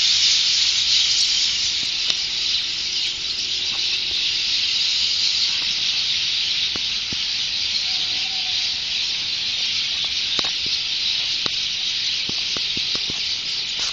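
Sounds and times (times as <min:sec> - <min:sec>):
flock of birds chattering: 0:00.0 - 0:13.9
sharp bird chirps: 0:00.0 - 0:13.9.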